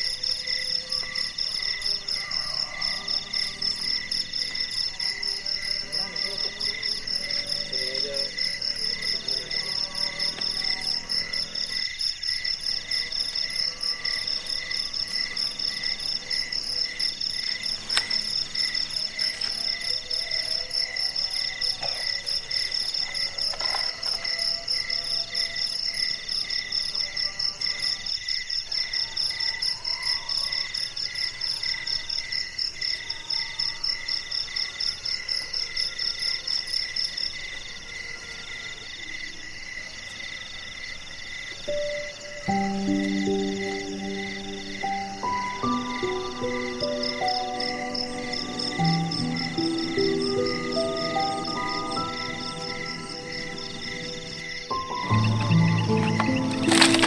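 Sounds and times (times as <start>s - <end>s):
high-pitched pulsing insect trill: 0.0s - 36.2s, 40.8s - 57.0s
insect song in longer pulses: 0.0s - 57.0s.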